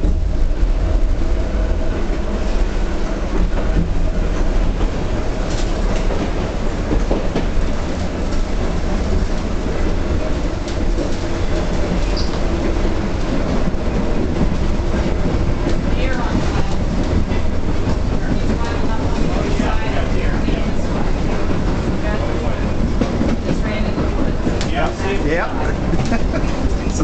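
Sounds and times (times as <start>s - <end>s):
rail clicks: 0.0s - 27.0s
streetcar wheels rumbling: 0.0s - 27.0s.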